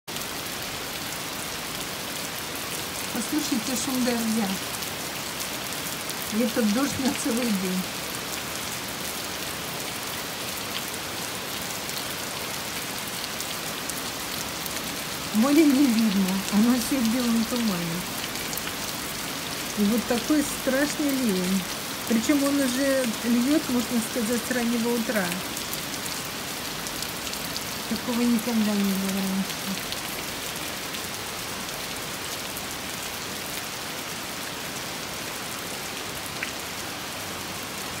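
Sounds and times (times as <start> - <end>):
heavy rain on trees: 0.1 - 38.0.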